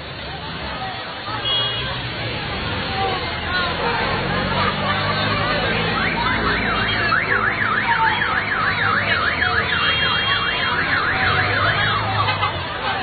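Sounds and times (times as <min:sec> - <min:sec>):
street crowd noise: 0:00.0 - 0:13.0.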